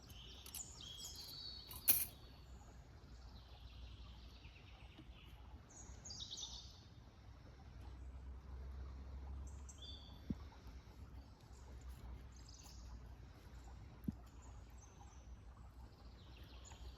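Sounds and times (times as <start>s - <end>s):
faint birds chirping: 0.0s - 16.9s.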